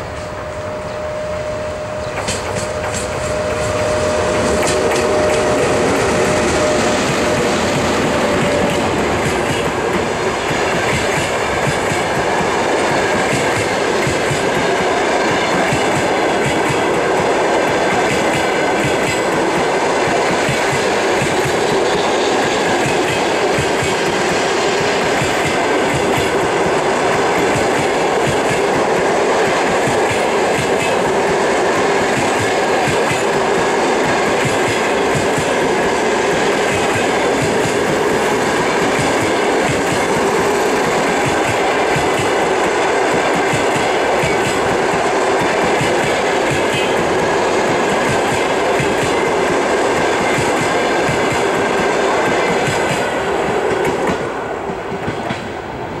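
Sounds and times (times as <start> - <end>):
train wheels clattering over rail joints: 2.0 - 55.6.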